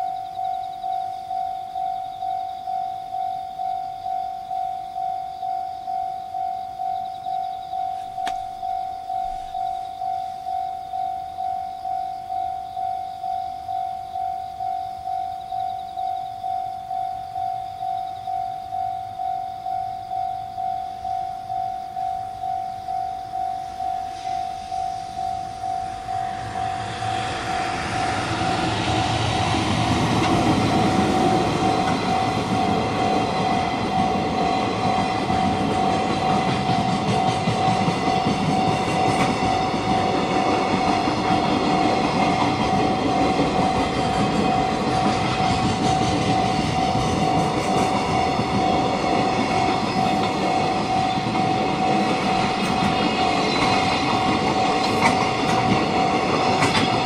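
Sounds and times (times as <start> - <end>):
level-crossing electronic bell: 0.0 - 57.0
train rumbling past: 0.0 - 57.0.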